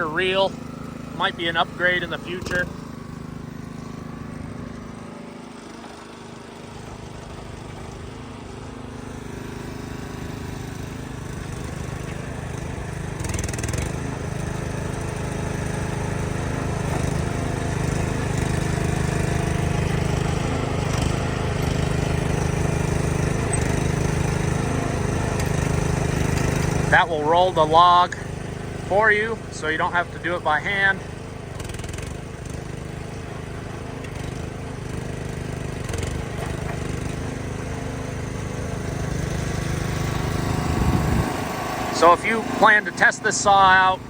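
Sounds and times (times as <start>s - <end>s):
sawmill machine hum: 0.0s - 44.0s.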